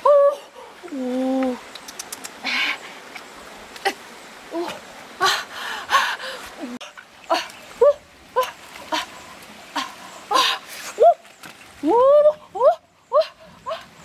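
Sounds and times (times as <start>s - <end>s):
rustling of leaves and branches: 0.0s - 14.0s.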